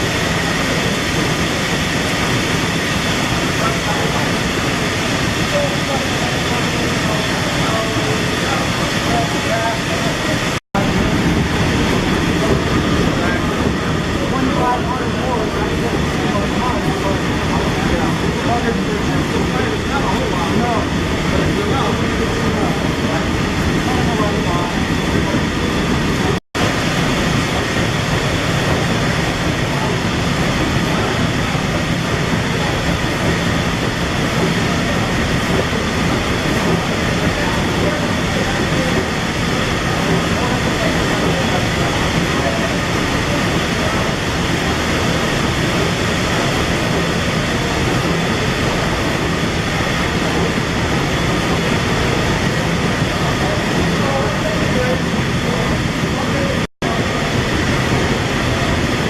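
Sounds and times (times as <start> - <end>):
steam engine running: 0.0 - 59.0.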